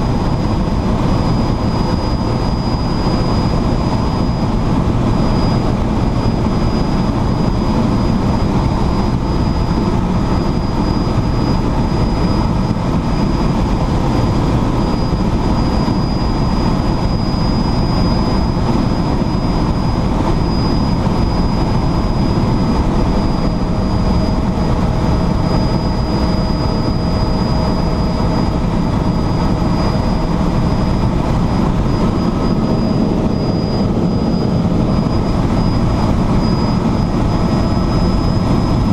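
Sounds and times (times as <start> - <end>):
helicopter rotor and engine drone: 0.0 - 38.9
thin high whine: 0.0 - 38.9.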